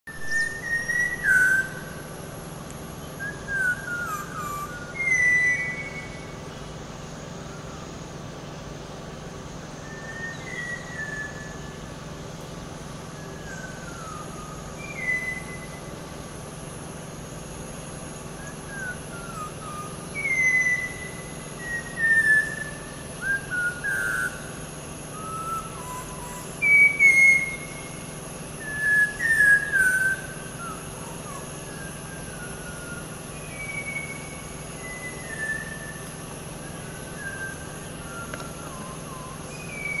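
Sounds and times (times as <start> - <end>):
thrush whistling song: 0.1 - 2.1, 3.0 - 8.1, 9.6 - 12.0, 13.0 - 16.0, 17.9 - 40.0.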